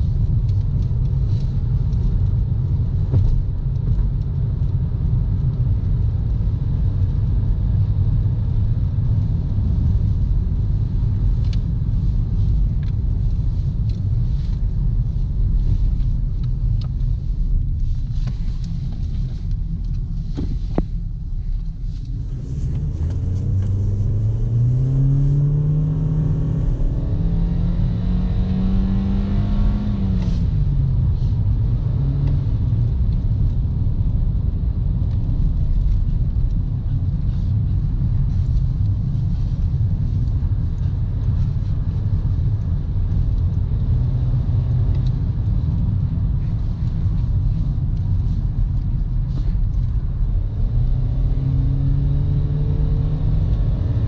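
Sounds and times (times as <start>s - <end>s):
car engine accelerating: 0.0s - 54.0s
road noise rumble: 0.0s - 54.0s.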